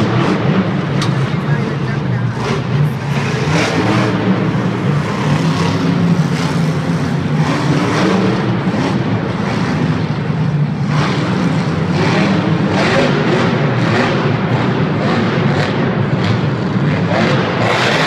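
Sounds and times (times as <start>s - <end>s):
monster truck engine running hard: 0.0s - 18.0s.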